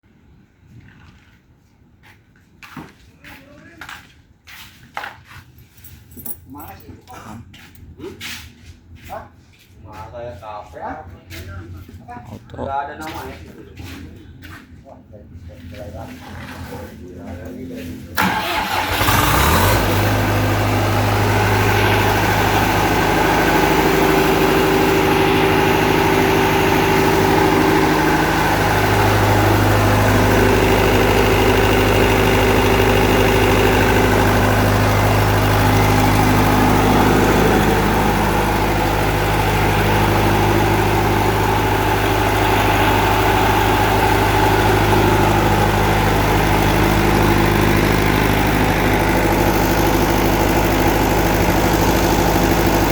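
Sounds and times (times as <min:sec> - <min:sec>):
diesel generator engine running: 0:05.6 - 0:52.9.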